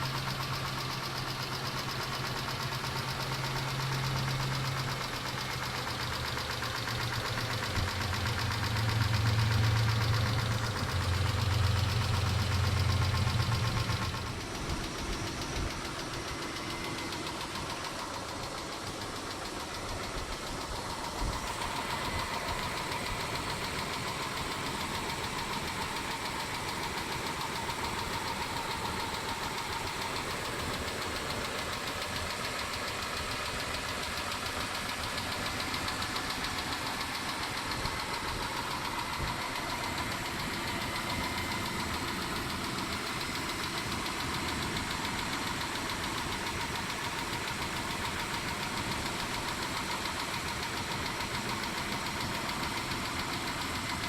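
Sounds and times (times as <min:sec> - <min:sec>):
engine running with ticking: 0:00.0 - 0:54.0.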